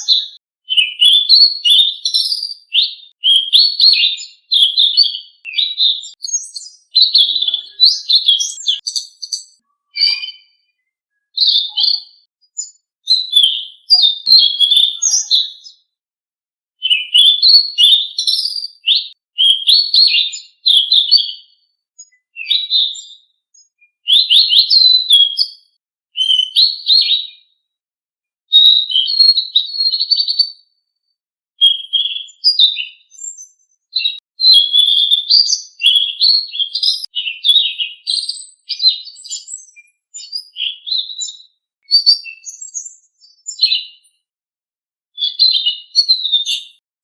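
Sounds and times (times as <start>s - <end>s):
songbird chirping and whistling: 0.0s - 15.9s, 16.8s - 27.5s, 28.5s - 30.7s, 31.6s - 44.1s, 45.2s - 46.8s.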